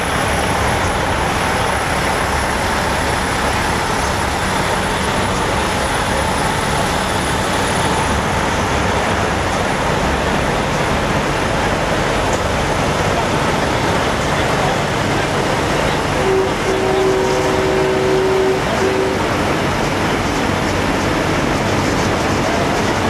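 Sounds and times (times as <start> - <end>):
diesel truck engines idling: 0.0 - 23.0.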